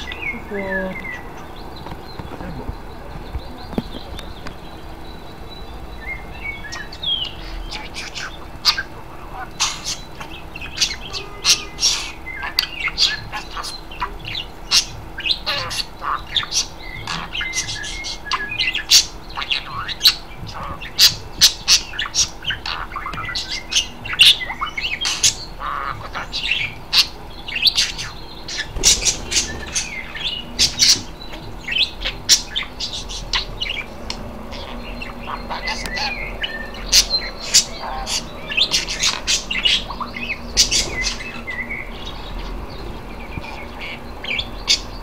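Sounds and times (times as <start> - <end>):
budgerigar chirping: 0.0 - 45.0.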